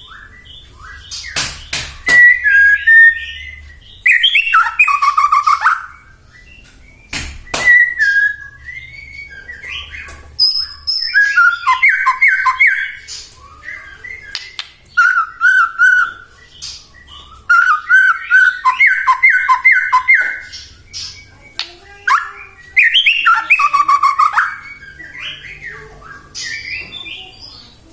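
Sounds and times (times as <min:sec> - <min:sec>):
songbird whistling: 0:00.0 - 0:27.8.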